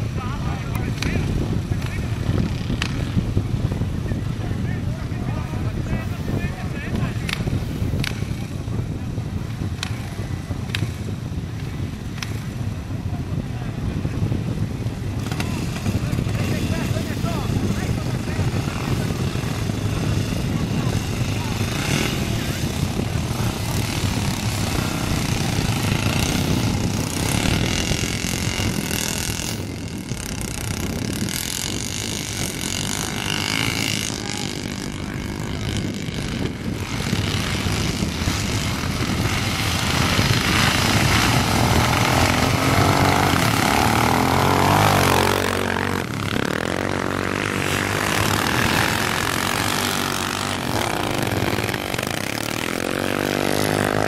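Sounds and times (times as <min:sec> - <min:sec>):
motorcycle revving hard close by: 0:00.0 - 0:03.8, 0:14.0 - 0:54.0
motorcycle engines idling and revving: 0:00.0 - 0:54.0.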